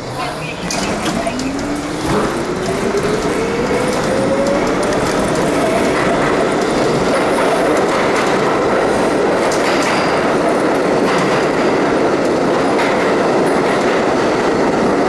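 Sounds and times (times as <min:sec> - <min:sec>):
subway train motor whine: 0:00.0 - 0:13.5
train wheels rumbling on rails: 0:00.0 - 0:15.0.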